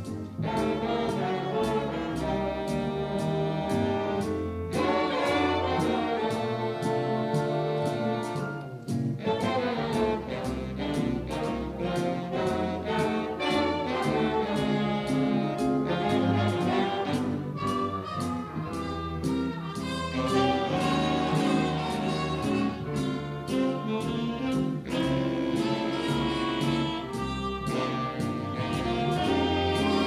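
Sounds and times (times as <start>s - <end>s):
big band playing jazz: 0.0s - 30.0s.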